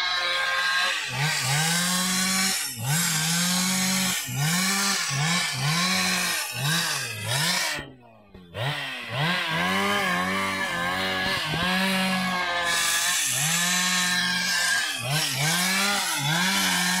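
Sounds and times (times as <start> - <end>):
chainsaw cutting timber: 0.0 - 17.0.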